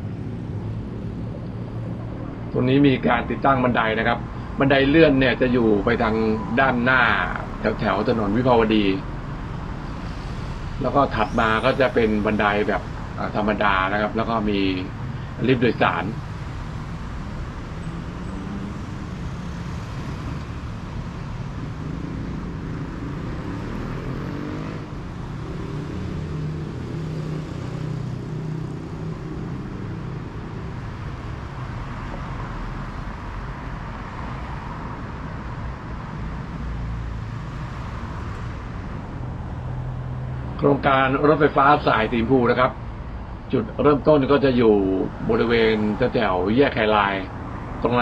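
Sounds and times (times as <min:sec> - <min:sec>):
cars passing: 0:00.0 - 0:48.0
hum of engines and tyres: 0:00.0 - 0:48.0.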